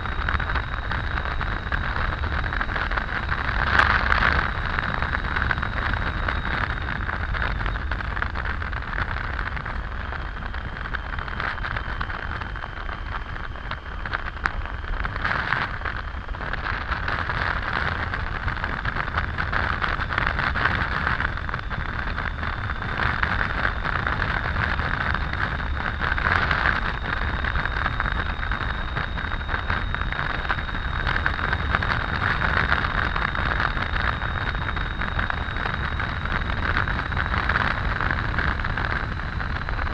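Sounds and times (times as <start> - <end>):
faint high-pitched whine: 0.0 - 39.9
motorcycle engine drone: 0.0 - 39.9
wind rush: 0.0 - 39.9.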